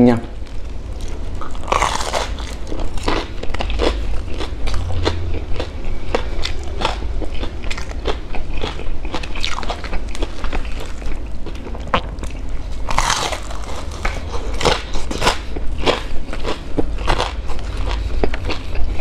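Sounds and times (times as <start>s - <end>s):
crunchy chewing of fried food: 0.3s - 19.0s.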